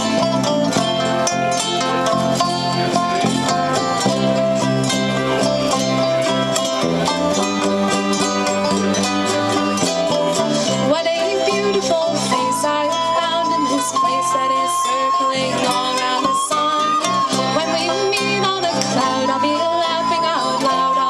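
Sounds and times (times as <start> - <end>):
melody of held notes: 0.0 - 21.0
plucked strings: 0.0 - 21.0
strummed ukulele: 0.0 - 21.0.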